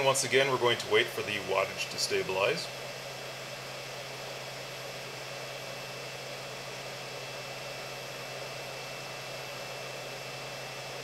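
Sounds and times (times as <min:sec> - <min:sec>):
low electrical hum: 0:00.0 - 0:11.0
space heater rushing noise: 0:00.0 - 0:11.0.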